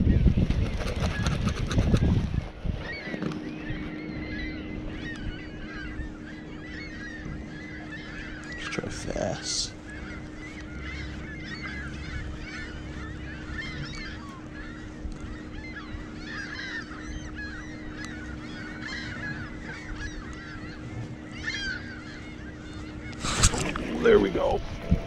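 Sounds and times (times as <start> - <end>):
faint steady hum: 0.0 - 25.0
flock of birds calling: 0.0 - 25.0.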